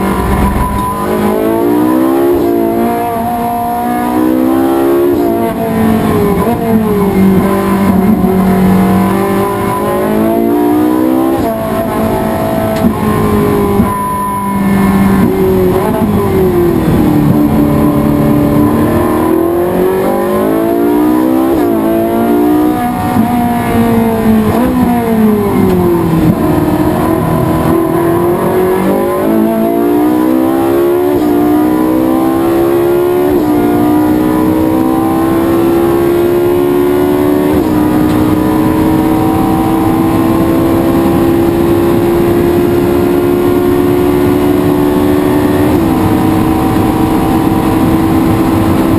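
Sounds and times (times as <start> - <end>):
race car engine revving: 0.0 - 48.9.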